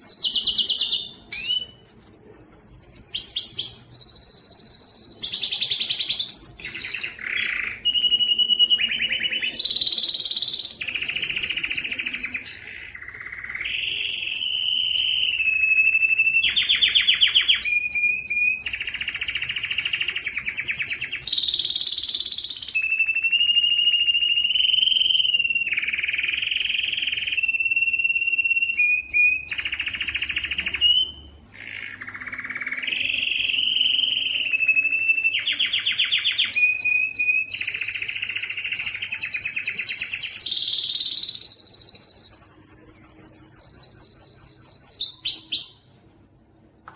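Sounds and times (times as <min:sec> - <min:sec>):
canary singing trills: 0:00.0 - 0:46.1.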